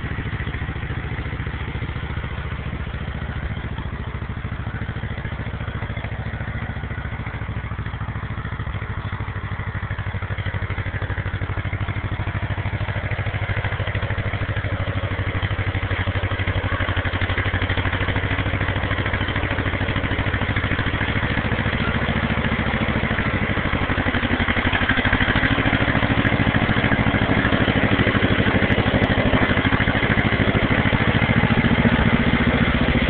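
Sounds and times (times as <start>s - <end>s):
dozer engine running: 0.0s - 33.0s.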